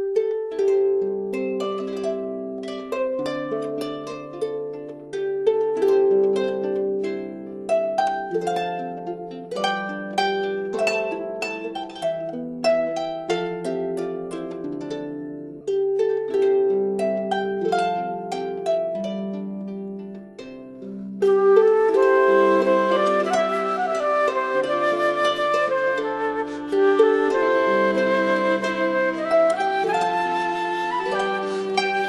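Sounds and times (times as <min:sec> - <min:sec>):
harp-like plucked music: 0:00.0 - 0:32.0.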